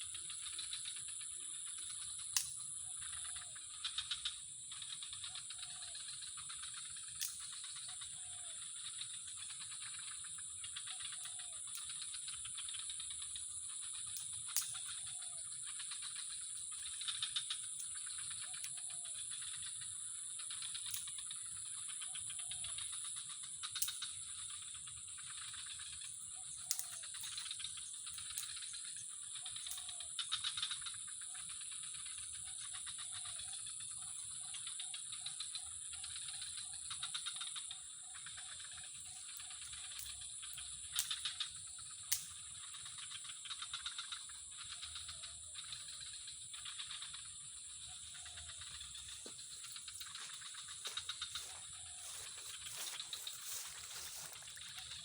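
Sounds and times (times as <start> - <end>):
frog croaking: 0.0 - 55.0
insects buzzing and trilling: 0.0 - 55.0.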